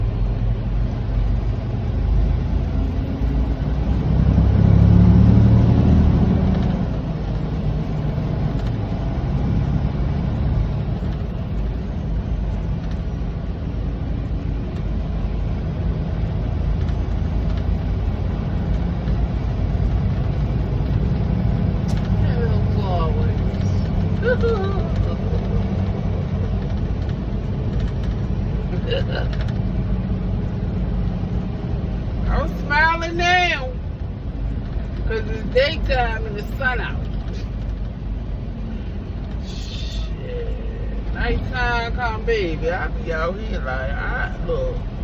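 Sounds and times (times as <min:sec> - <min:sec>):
truck engine and road rumble: 0:00.0 - 0:45.0.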